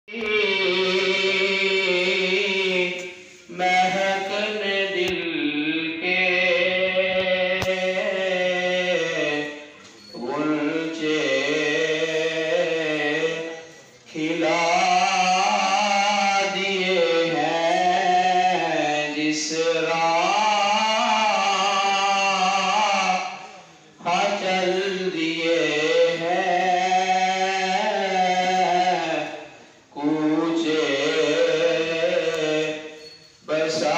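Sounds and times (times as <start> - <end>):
man singing unaccompanied: 0.0 - 33.9.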